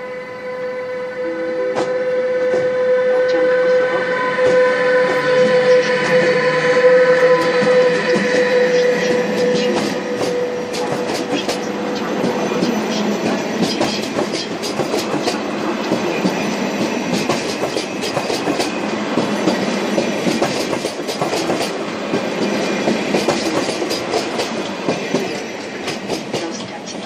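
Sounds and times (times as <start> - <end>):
train wheels rumbling on rail: 1.7 - 27.0.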